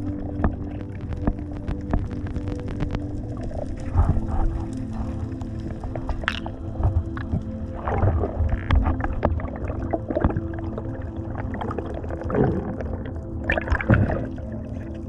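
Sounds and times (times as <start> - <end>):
underwater gurgling and bubbling: 0.0 - 15.0.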